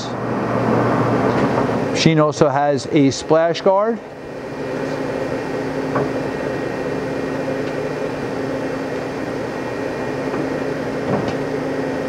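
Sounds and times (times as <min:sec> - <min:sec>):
lathe motor humming: 0:00.0 - 0:12.0.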